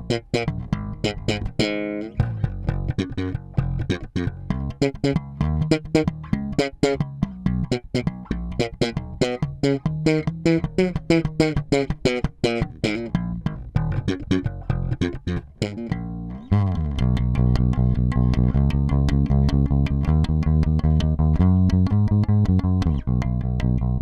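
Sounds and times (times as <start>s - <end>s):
electric bass plucked fingerstyle: 0.0s - 24.0s.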